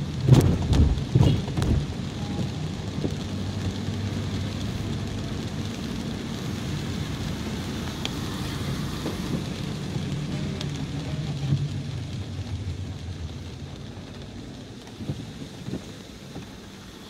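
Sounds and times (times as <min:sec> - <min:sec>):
car engine hum: 0:00.0 - 0:17.0
tyres hissing on wet road: 0:00.0 - 0:17.0.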